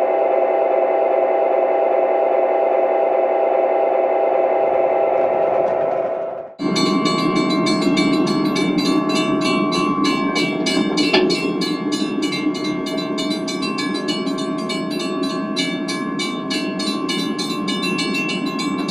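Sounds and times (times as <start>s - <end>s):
model train whine and clicking: 0.0s - 18.9s.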